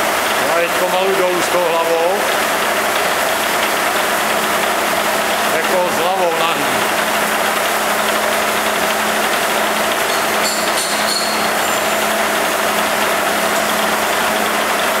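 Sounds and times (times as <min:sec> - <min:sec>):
milling machine whirring hum: 0:00.0 - 0:15.0.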